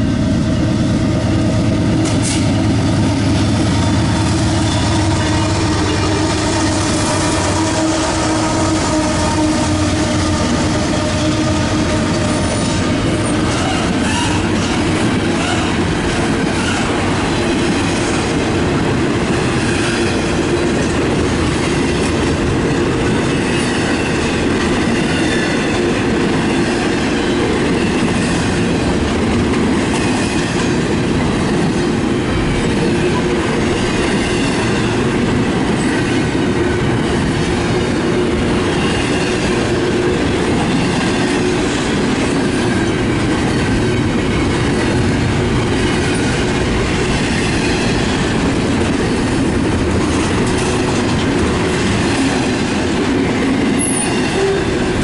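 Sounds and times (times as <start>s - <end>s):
train wheels rumbling on rail: 0.0s - 55.0s
clickety-clack over rail joints: 1.6s - 3.6s, 4.6s - 55.0s.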